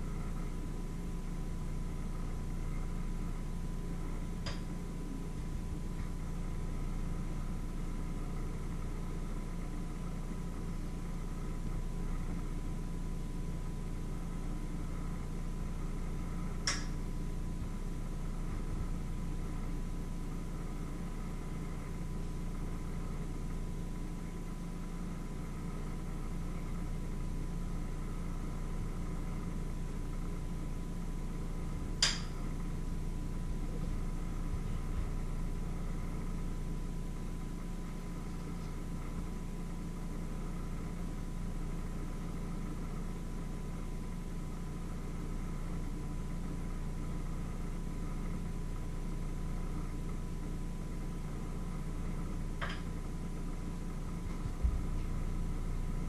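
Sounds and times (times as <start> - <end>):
faint steady whine: 0.0 - 56.0
low mechanical hum: 0.0 - 56.0.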